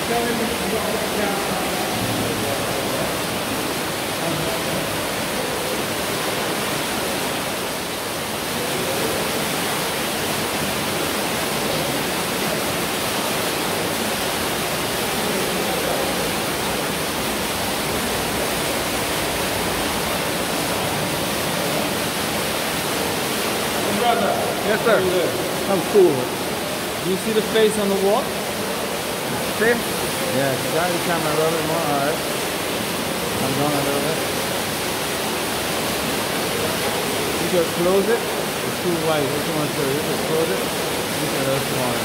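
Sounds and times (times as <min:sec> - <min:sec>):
waterfall rushing into pool: 0:00.0 - 0:42.0.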